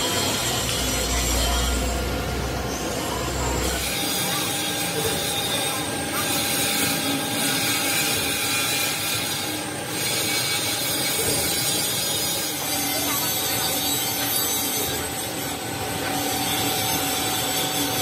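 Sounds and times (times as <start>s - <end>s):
machinery running: 0.0s - 18.0s.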